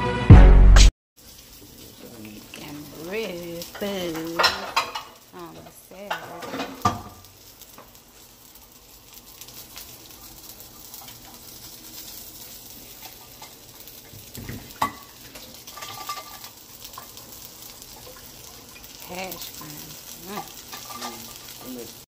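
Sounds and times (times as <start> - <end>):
food sizzling in frying pans: 1.2 - 22.0.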